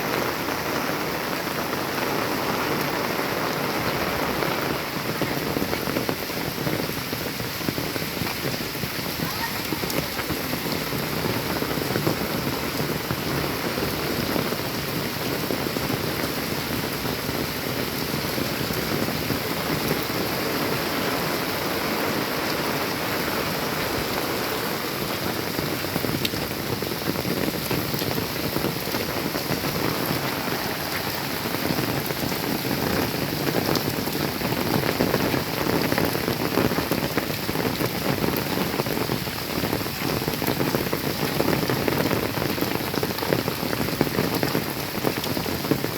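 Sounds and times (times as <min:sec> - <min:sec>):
rain pattering on surfaces: 0:00.0 - 0:45.9.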